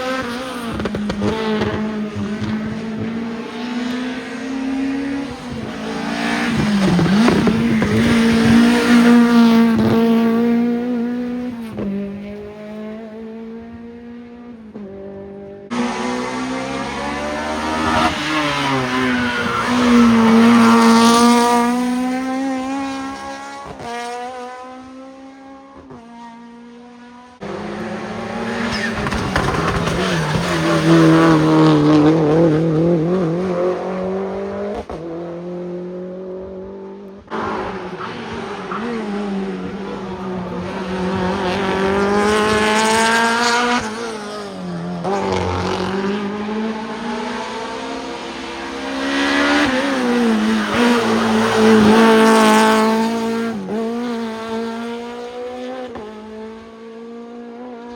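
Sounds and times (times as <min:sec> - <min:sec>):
racing cars passing at full throttle: 0:00.0 - 0:57.9.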